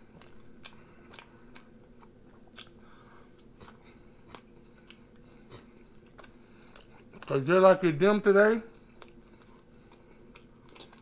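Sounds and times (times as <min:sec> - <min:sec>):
wet chewing with mouth clicks: 0:00.0 - 0:07.4, 0:08.7 - 0:11.0.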